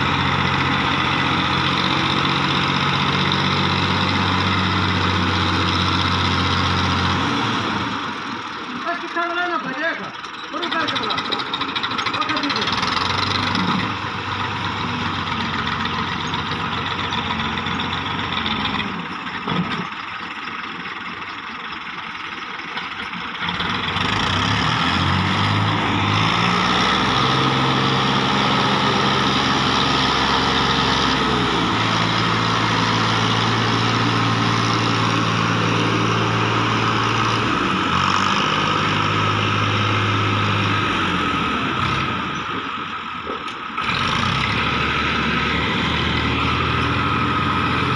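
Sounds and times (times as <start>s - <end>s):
tractor diesel engine working: 0.0s - 47.9s.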